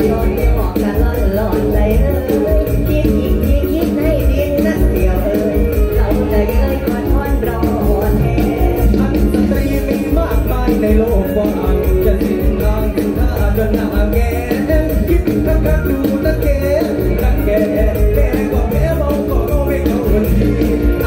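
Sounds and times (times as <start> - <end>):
live band music through pa: 0.0 - 21.0
man singing into microphone: 0.0 - 21.0.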